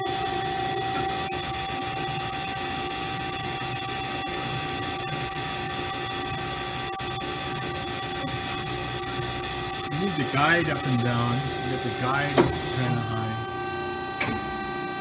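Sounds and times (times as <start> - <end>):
band saw humming and whining: 0.0 - 15.0.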